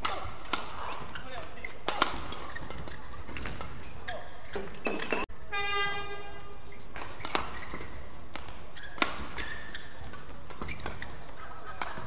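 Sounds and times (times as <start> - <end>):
rackets hitting shuttlecock: 0.0 - 5.3, 6.8 - 12.0
shoes squeaking on court floor: 0.0 - 5.3, 6.3 - 12.0.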